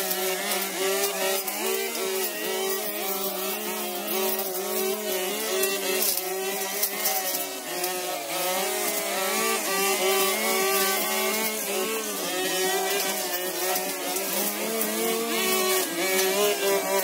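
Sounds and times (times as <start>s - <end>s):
brush cutter engines revving: 0.0s - 17.0s.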